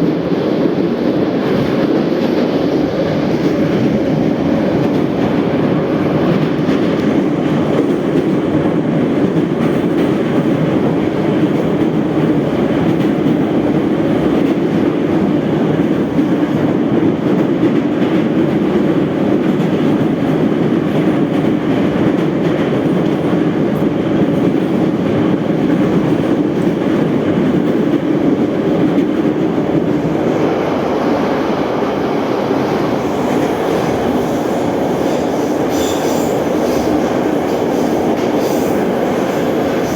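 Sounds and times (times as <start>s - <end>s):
metro train wheels on rails: 0.0s - 39.9s.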